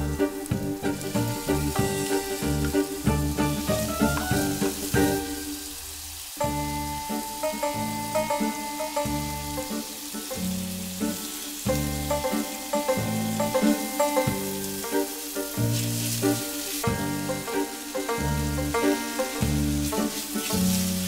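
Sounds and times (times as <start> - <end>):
instrumental music with a beat: 0.0 - 21.0
vegetables sizzling in a pan: 0.0 - 21.0.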